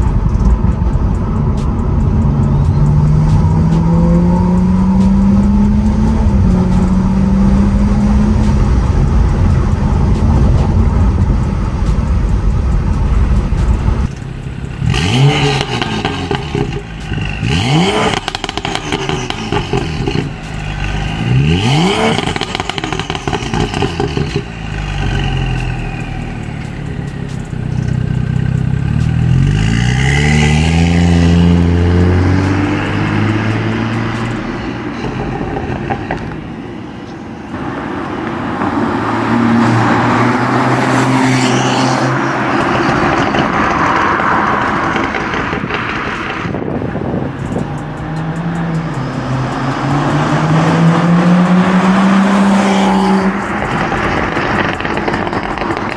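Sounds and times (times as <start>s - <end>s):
car exhaust revving and accelerating: 0.0s - 55.9s.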